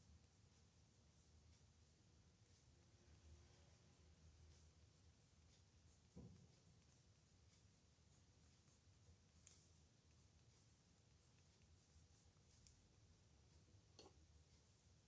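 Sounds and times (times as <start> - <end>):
pen scratching on paper: 0.0 - 13.2.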